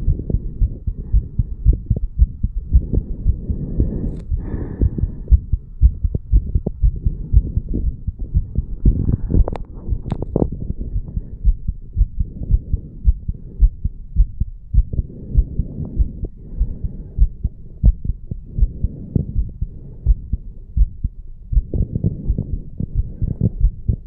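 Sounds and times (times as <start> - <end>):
heartbeat thumps: 0.0 - 24.0.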